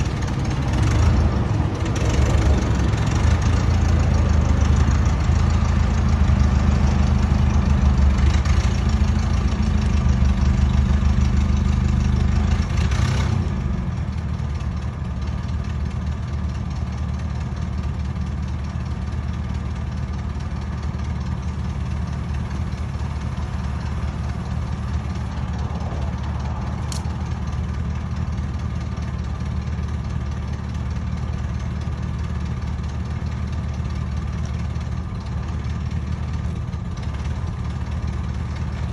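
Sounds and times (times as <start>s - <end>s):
engine running and idling: 0.0s - 38.9s.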